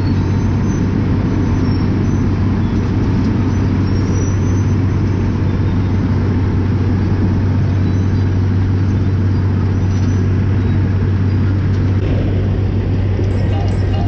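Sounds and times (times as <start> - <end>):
heavy diesel machinery drone: 0.0 - 14.0.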